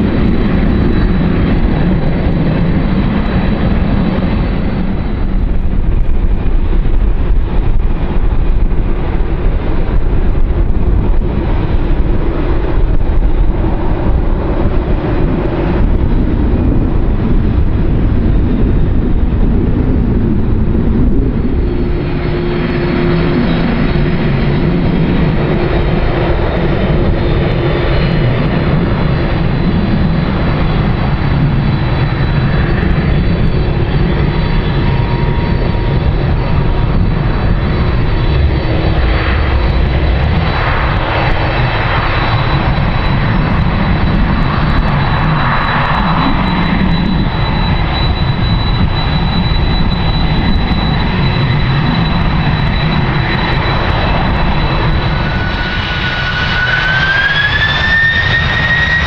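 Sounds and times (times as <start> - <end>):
high steady whining tones: 0.0 - 59.0
jet engines rumbling: 0.0 - 59.0.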